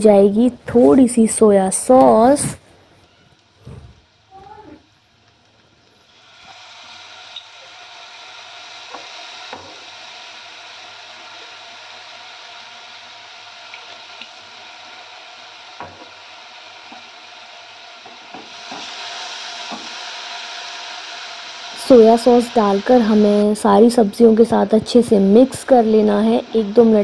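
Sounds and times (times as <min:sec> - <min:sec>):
vegetables sizzling in oil: 0:04.2 - 0:27.0.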